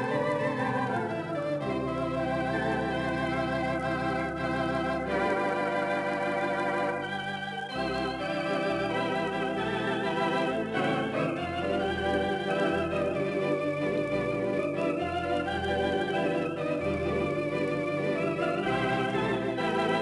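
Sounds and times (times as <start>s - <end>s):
theatre organ chords: 0.0s - 20.0s.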